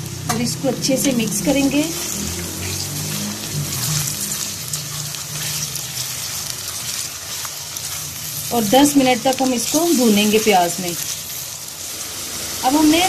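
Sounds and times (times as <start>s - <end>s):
meat sizzling in oil: 0.0s - 13.0s
spatula stirring in metal pot: 0.9s - 13.0s.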